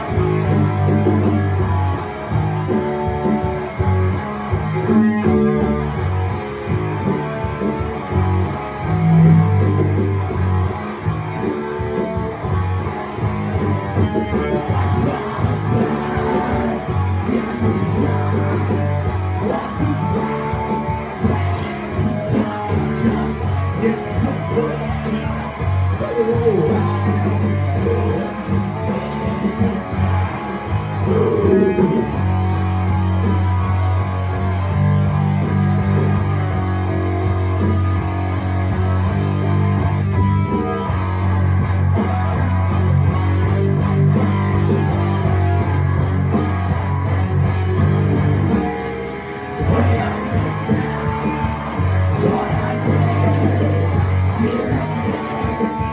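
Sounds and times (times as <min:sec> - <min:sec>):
electric guitar: 0:00.0 - 0:55.9
rock band playing live: 0:00.0 - 0:55.9.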